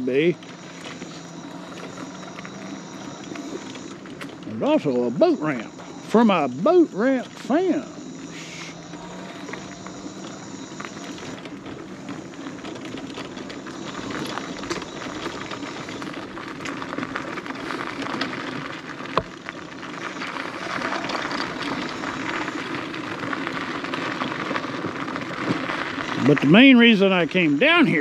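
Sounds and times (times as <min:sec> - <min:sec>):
tyres crackling over gritty asphalt: 0:00.0 - 0:28.0.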